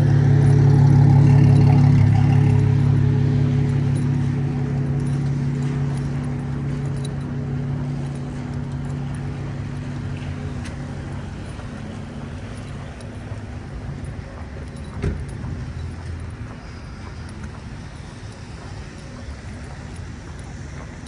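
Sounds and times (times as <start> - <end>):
outdoor noise: 0.0 - 21.0
vehicle engine humming: 0.0 - 21.0.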